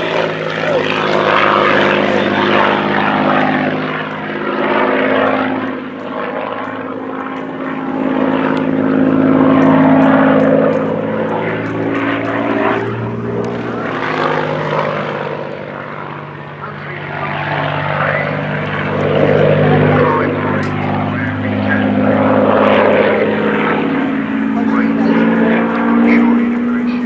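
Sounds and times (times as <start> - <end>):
propeller plane engine droning: 0.0 - 27.0.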